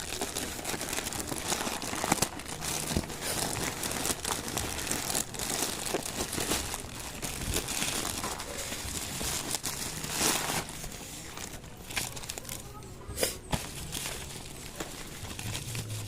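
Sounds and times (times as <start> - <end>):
packaging crinkling: 0.0 - 12.8, 13.4 - 16.0.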